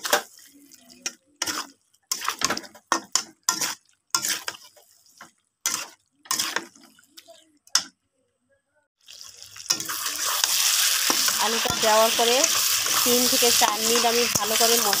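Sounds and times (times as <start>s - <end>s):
metal spatula scraping pan: 0.0s - 7.0s, 9.7s - 15.0s.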